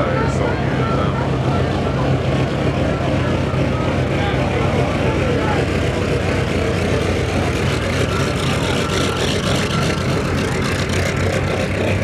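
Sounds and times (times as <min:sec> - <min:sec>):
piston aircraft engine droning: 0:00.0 - 0:12.0.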